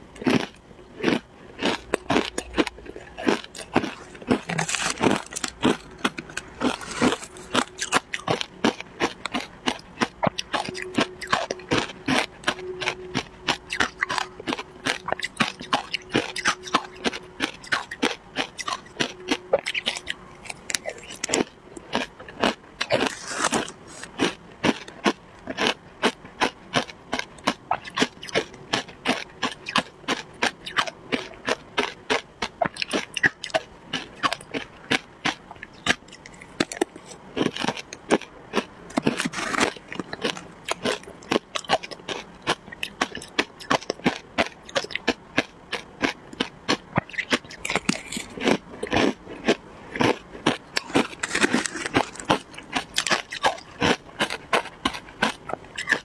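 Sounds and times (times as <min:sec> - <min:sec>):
shaved ice crunching when chewed: 0:00.2 - 0:56.0.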